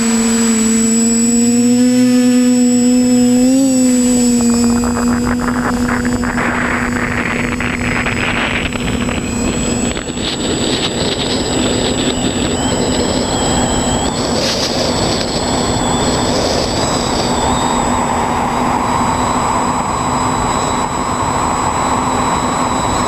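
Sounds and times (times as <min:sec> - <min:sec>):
propeller rushing noise: 0:00.0 - 0:23.0
quadcopter motors humming: 0:00.0 - 0:23.0.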